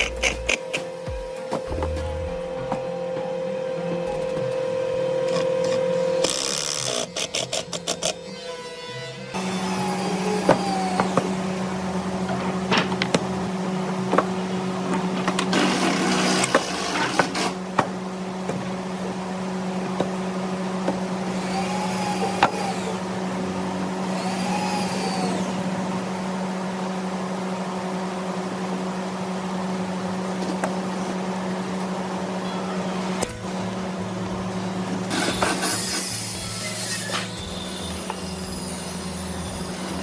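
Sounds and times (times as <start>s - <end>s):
electric motor humming: 0.0s - 40.0s.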